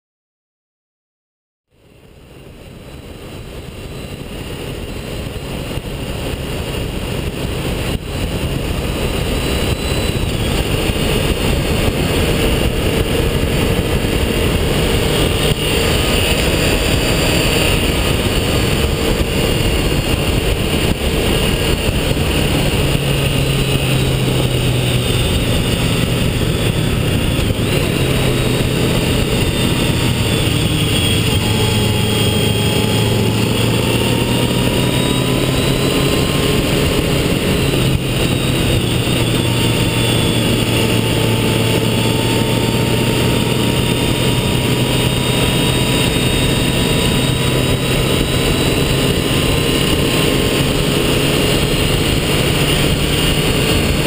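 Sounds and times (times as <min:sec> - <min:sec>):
motorcycle engine drone: 0:01.7 - 0:54.0
wind and road rush: 0:01.7 - 0:54.0.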